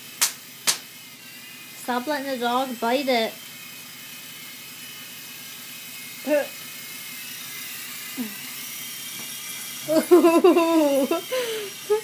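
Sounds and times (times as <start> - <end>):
toy helicopter motor whining: 0.0 - 12.0.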